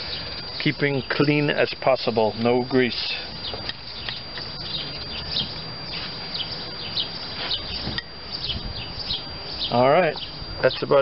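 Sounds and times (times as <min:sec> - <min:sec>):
small birds chirping: 0:00.0 - 0:11.0
steady background hiss: 0:00.0 - 0:11.0.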